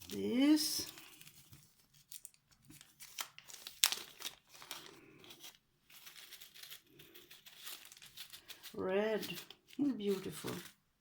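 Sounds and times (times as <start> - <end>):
packaging bag crinkling: 0.0 - 10.8.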